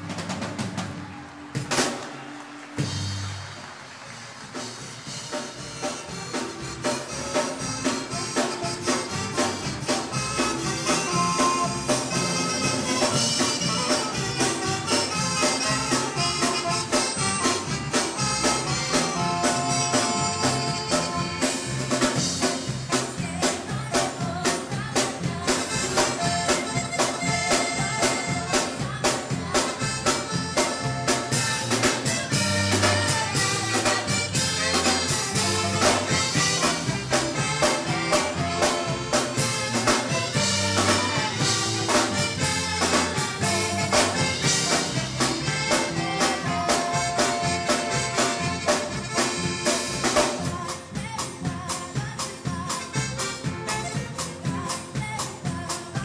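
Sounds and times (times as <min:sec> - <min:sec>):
electric bass: 0:00.0 - 0:01.2, 0:04.5 - 0:56.0
drum kit beat: 0:00.0 - 0:56.0
keyboard: 0:00.0 - 0:56.0
saxophones playing melody: 0:05.1 - 0:23.4, 0:25.5 - 0:51.0, 0:52.7 - 0:55.0.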